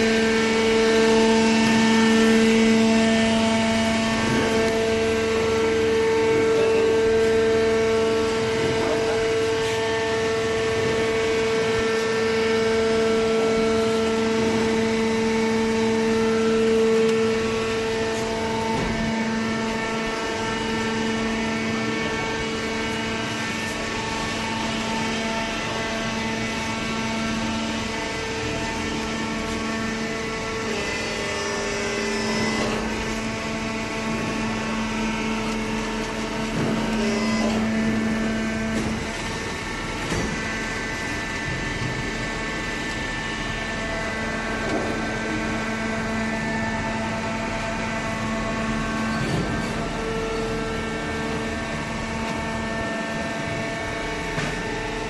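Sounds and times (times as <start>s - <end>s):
baler pump motor humming: 0.0s - 55.0s.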